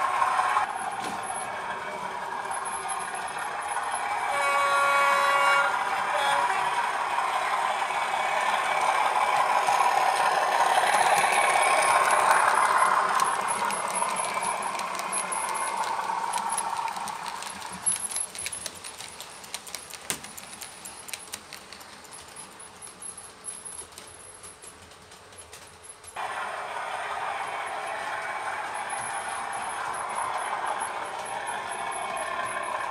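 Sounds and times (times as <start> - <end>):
model train running past: 0.0 - 32.9
wheels clicking on track: 0.0 - 32.9.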